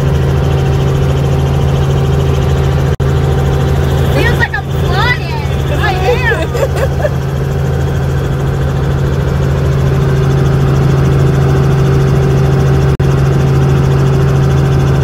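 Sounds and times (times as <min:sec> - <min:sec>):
helicopter cabin drone: 0:00.0 - 0:15.0.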